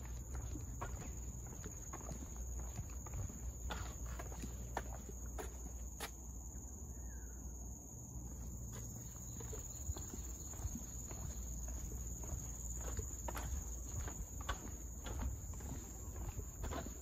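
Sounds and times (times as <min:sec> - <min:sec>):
light footsteps: 0:00.0 - 0:06.3, 0:08.2 - 0:17.0.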